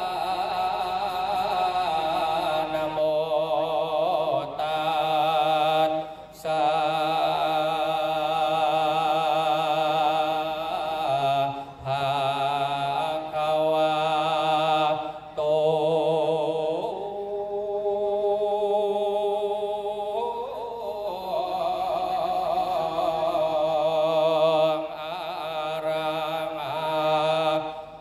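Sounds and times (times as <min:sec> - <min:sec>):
man chanting into a microphone: 0:00.0 - 0:28.0.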